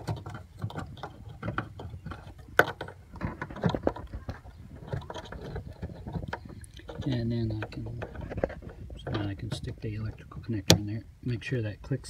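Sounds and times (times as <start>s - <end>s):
plastic clicks and knocks: 0.0s - 10.9s.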